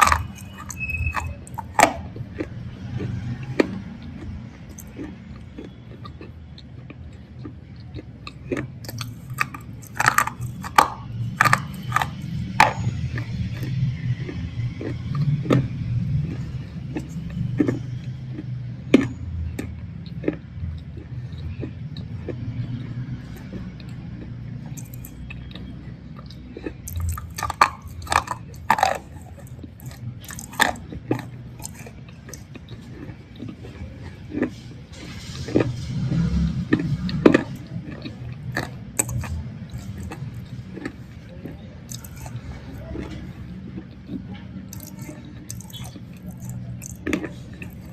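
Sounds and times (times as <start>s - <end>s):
brittle crunching and chewing: 0.0s - 47.9s.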